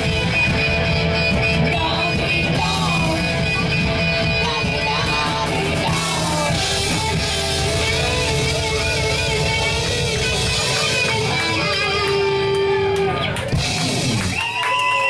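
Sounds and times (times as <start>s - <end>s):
bass and drums: 0.0s - 15.0s
distorted electric guitars: 0.0s - 15.0s.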